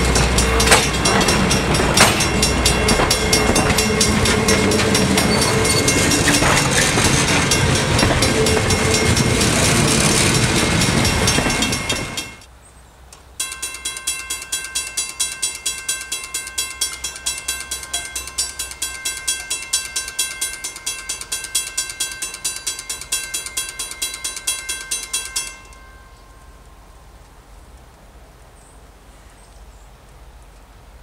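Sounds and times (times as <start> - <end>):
crossing bell ringing: 0.0 - 12.5, 13.4 - 27.2.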